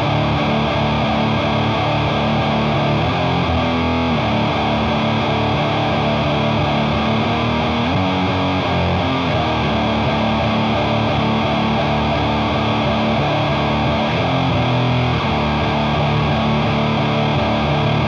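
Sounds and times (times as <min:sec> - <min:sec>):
heavily distorted electric guitar riff: 0:00.0 - 0:18.0.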